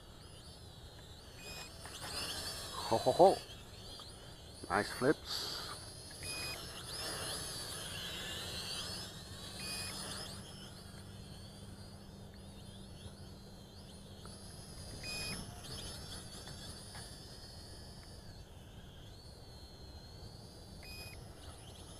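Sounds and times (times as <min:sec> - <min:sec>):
quadcopter motors whining: 0:00.0 - 0:21.9.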